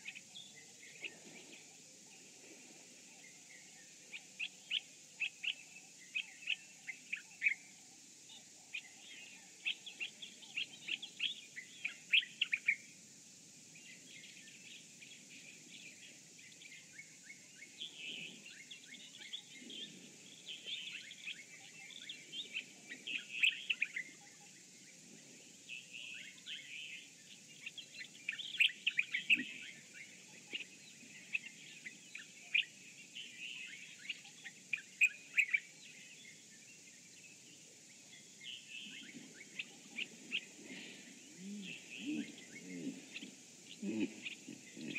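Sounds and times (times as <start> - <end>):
birds chirping: 0.0 - 13.0, 13.7 - 44.9
faint high-pitched hiss: 0.0 - 44.9.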